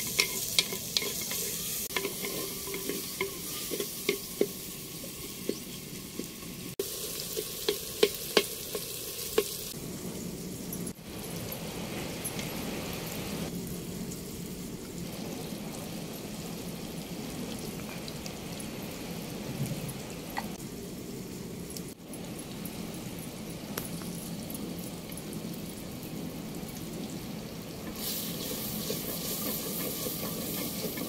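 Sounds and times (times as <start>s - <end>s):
food sizzling in oil: 0.0s - 31.0s.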